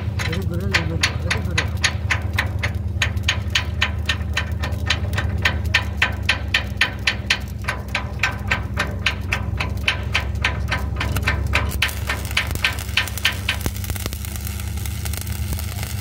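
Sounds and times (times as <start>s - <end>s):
machine knocking tick: 0.0s - 15.9s
machine humming: 0.0s - 16.0s.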